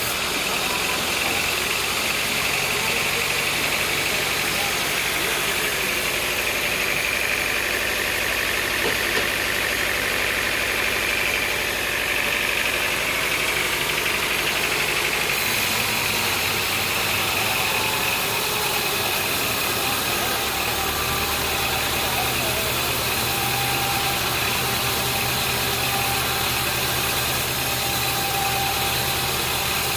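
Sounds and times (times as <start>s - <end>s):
sawmill machinery drone and whine: 0.0s - 29.9s.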